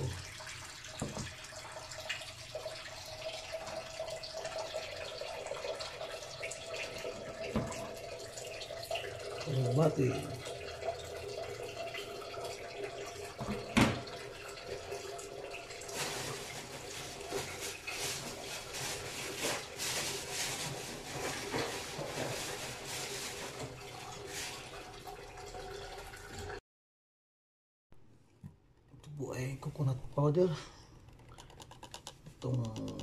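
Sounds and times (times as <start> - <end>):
kitchen water running: 0.0 - 26.6.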